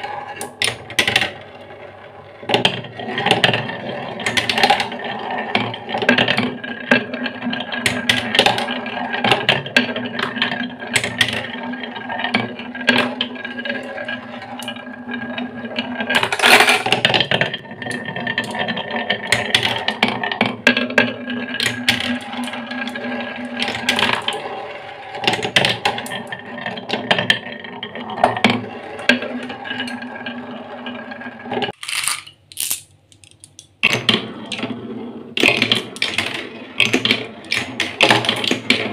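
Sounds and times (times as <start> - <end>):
marbles rolling on wooden track: 0.0 - 38.9.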